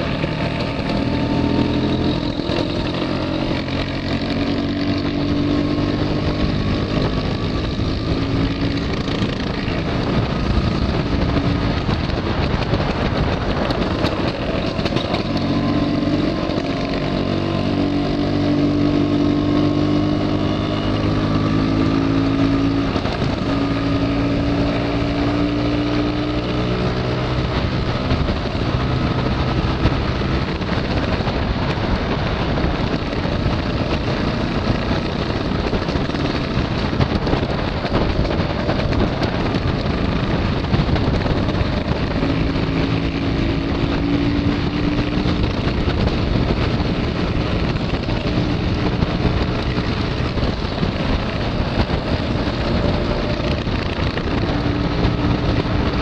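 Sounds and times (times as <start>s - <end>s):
two-stroke scooter engines: 0.0s - 56.0s
wind on microphone: 0.0s - 56.0s.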